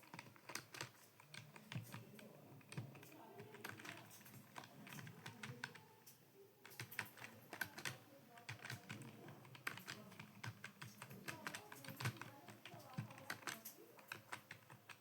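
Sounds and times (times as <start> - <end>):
computer keyboard typing: 0.0 - 15.0.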